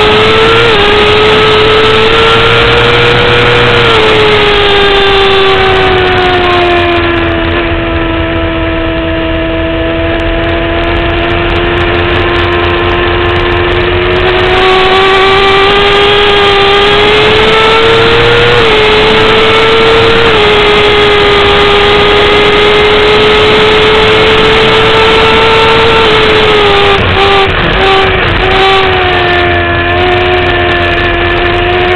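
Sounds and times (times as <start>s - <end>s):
heavy wind rush: 0.0s - 31.9s
sport bike engine: 0.0s - 31.9s.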